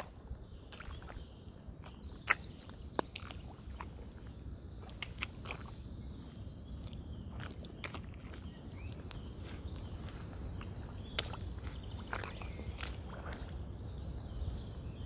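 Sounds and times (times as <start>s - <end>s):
footsteps squelching in mud: 0.0s - 14.3s.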